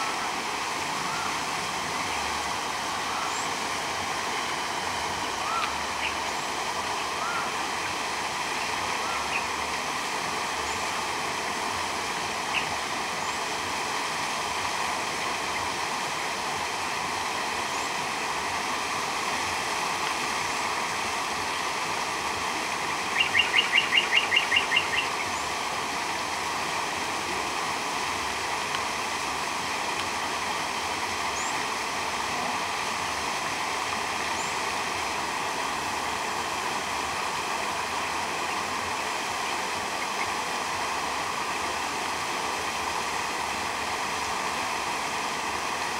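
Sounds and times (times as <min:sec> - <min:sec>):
rushing splashing water: 0:00.0 - 0:45.9.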